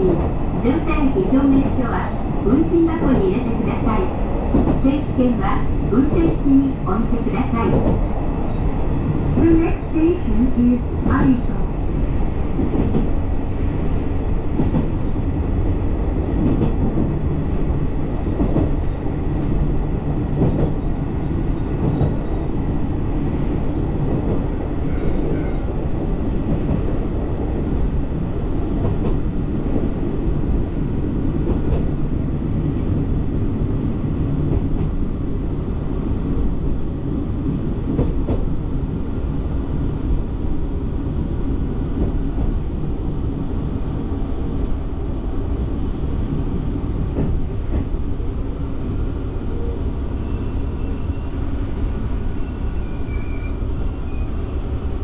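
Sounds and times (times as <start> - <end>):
diesel railcar engine and wheels: 0.0 - 55.0.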